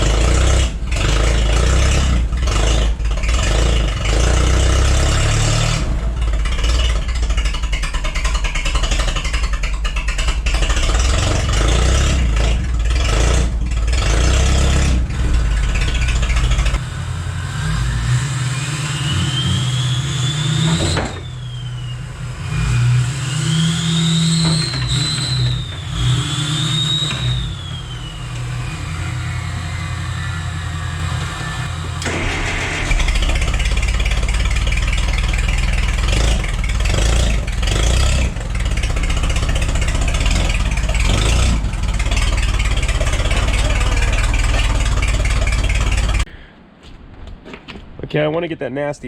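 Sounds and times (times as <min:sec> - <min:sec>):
forklift engine running: 0:00.0 - 0:46.3.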